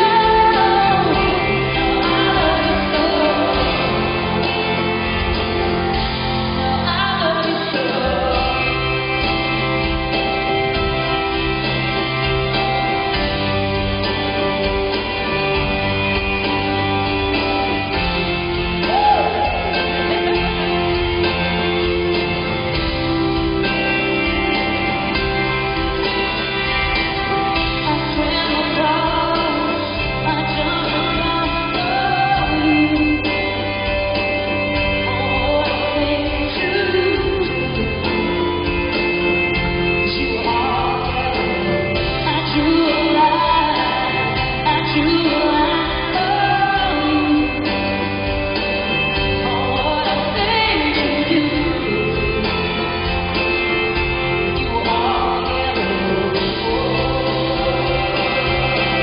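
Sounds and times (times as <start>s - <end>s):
bass: 0.0s - 59.0s
guitar: 0.0s - 59.0s
woman singing pop song: 0.0s - 59.0s.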